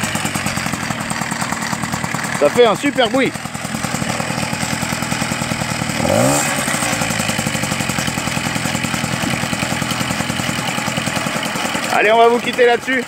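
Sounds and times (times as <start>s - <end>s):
moped engine idling: 0.0s - 13.0s.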